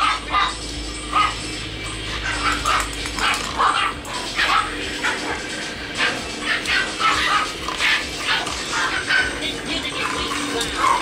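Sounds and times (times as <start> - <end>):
puppies yipping and barking: 0.0 - 11.0.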